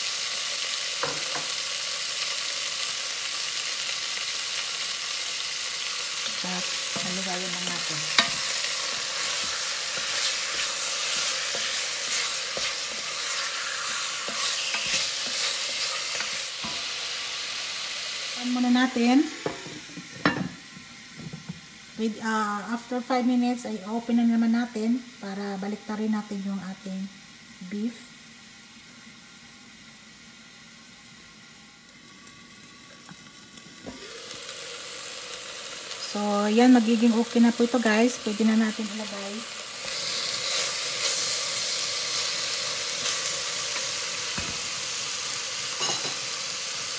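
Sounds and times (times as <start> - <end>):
meat sizzling in oil: 0.0 - 26.3, 29.7 - 46.9.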